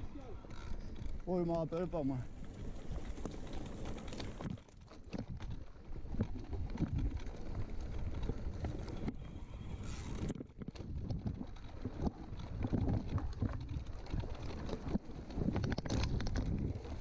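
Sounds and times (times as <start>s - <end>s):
bike knocking and rattling: 0.0s - 17.0s
bike tyres rumbling on dirt: 0.0s - 17.0s.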